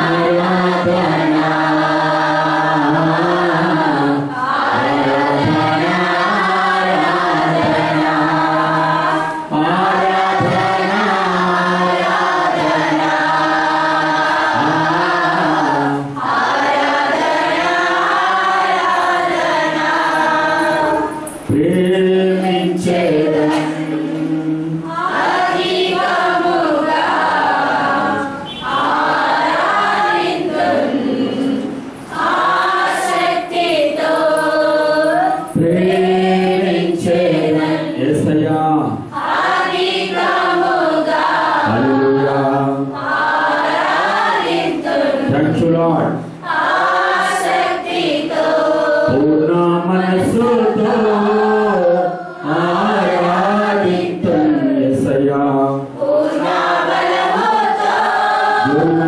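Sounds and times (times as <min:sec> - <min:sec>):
congregation singing a worship song: 0:00.0 - 0:59.0.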